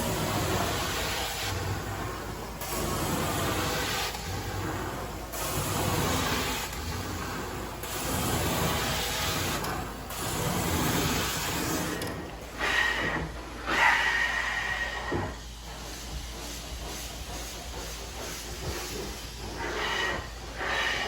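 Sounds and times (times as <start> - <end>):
carpet extraction wand hissing: 0.0 - 21.0.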